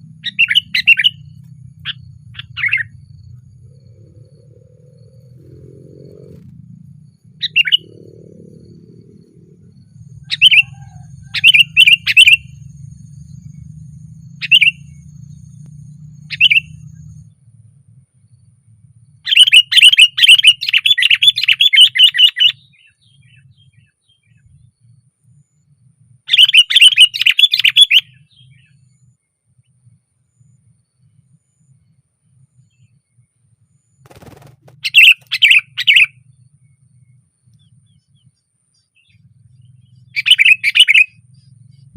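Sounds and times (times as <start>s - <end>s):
bulbul calling: 0.0s - 17.4s, 19.2s - 25.0s, 26.3s - 29.8s, 34.1s - 41.9s.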